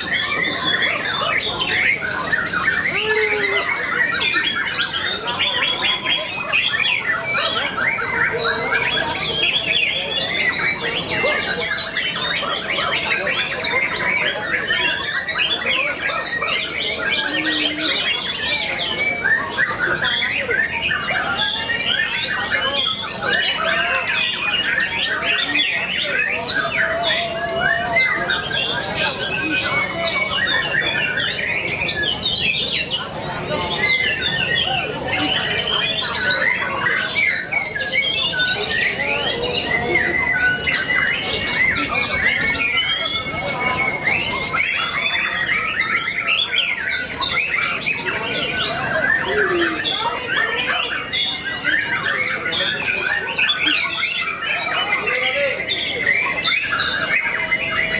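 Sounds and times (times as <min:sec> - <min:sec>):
caged songbirds singing: 0:00.0 - 0:57.9.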